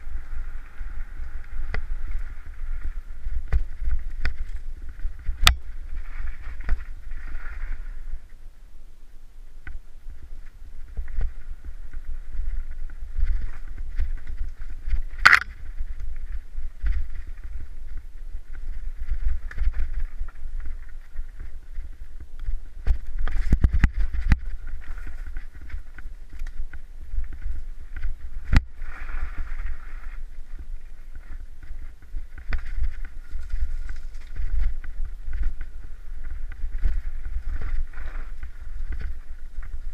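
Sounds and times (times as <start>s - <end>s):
bike tyres and frame rattling: 0.0s - 8.3s, 9.8s - 39.9s
wind buffeting microphone: 0.0s - 8.6s, 9.4s - 39.9s.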